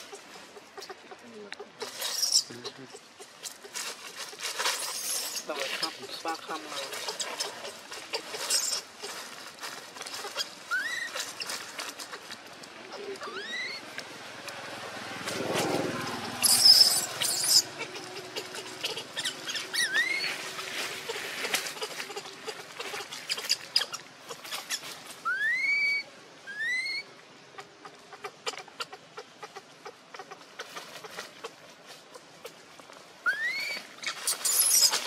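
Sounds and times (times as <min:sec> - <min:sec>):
infant monkey squeaking: 0:00.0 - 0:09.4, 0:10.0 - 0:13.9, 0:16.2 - 0:32.6, 0:33.2 - 0:35.0
dry leaves crackling: 0:00.0 - 0:35.0.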